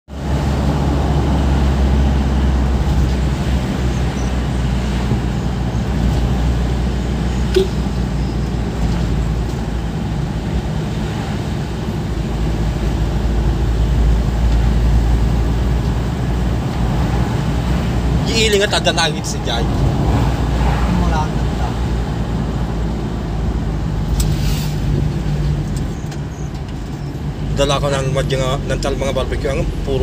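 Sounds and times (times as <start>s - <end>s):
vehicle engine and road noise: 0.1s - 30.0s.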